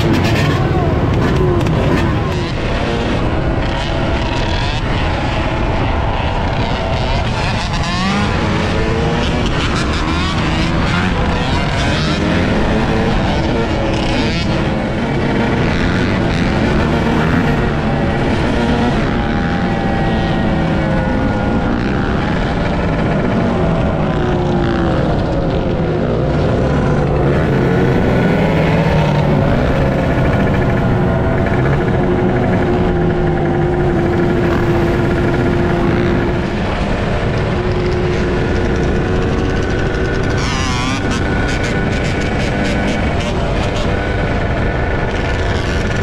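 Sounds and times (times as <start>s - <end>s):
dirt bike and atv engines revving: 0.0s - 46.0s
steady rush of noise: 0.0s - 46.0s.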